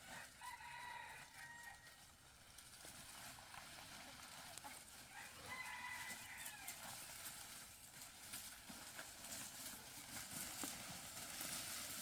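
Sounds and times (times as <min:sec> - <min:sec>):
faint rural ambience: 0:00.0 - 0:12.0.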